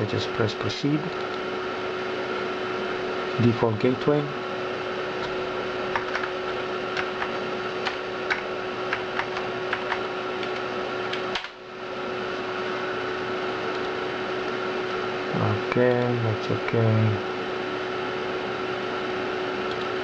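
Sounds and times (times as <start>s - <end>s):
computer hard drive whirring: 0.0s - 20.0s.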